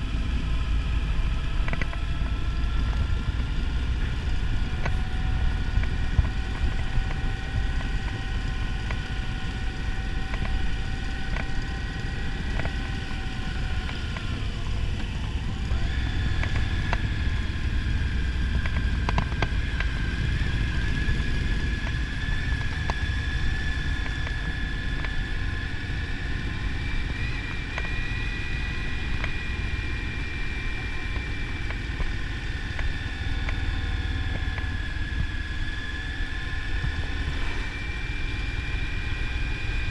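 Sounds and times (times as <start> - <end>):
motorcycle engine whine: 0.0 - 39.9.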